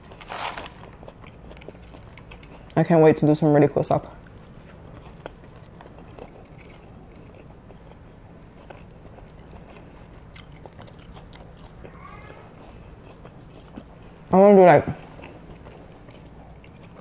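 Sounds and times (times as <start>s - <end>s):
person chewing fries: 0.0s - 14.3s, 15.0s - 17.0s
faint low hum: 0.0s - 17.0s.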